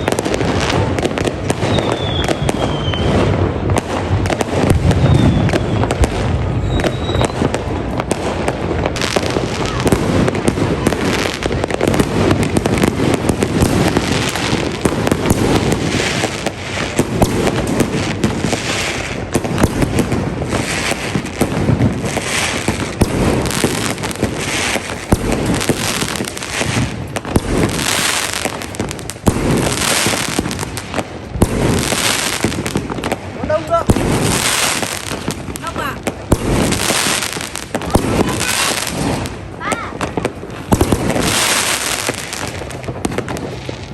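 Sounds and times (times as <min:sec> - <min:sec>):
fireworks bangs and crackling: 0:00.0 - 0:43.9
fireworks hissing burst: 0:00.0 - 0:43.9.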